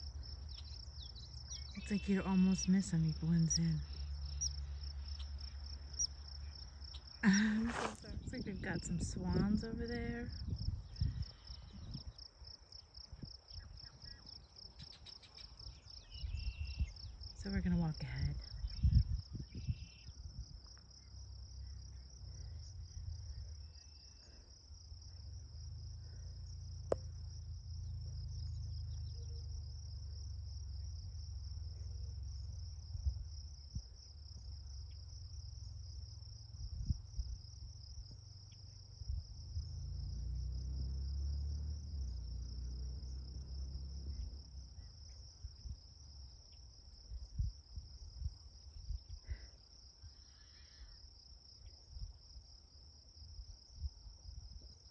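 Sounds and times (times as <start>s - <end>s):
crickets chirring: 0.0s - 54.9s.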